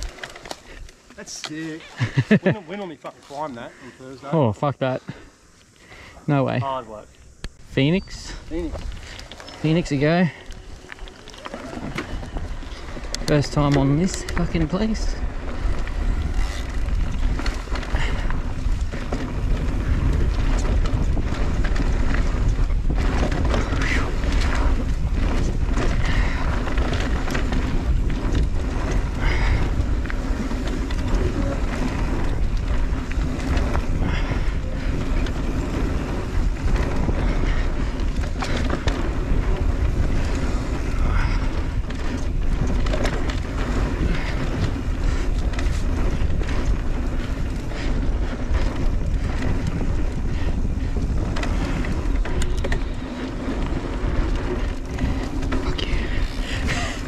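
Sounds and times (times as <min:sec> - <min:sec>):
tyres rolling on dirt: 0:00.0 - 0:57.0
wind on microphone: 0:07.3 - 0:57.0
bike clattering over bumps: 0:08.1 - 0:57.0.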